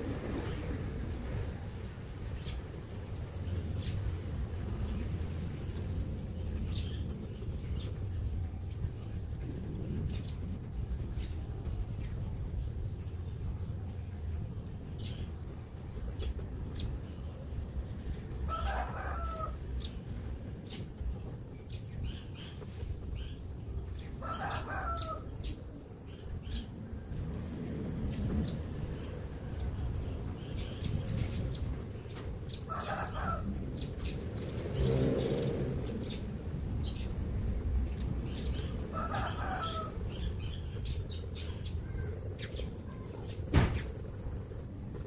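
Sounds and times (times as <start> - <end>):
low background rumble: 0.0 - 45.0.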